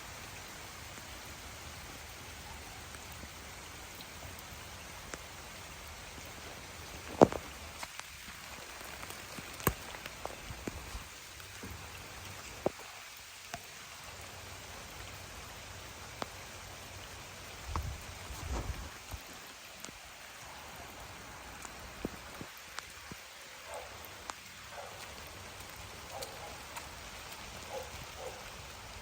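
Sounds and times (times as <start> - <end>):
rain hissing: 0.0 - 29.0
heavy raindrops tapping: 2.9 - 14.2, 15.8 - 29.0.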